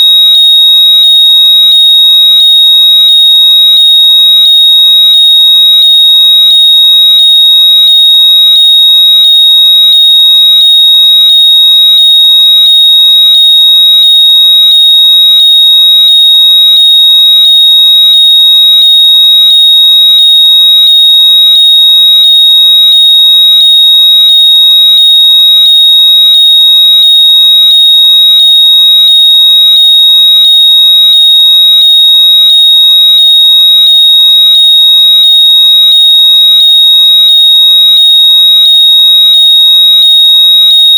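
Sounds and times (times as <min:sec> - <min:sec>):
high-pitched electronic tone: 0:00.0 - 0:40.9.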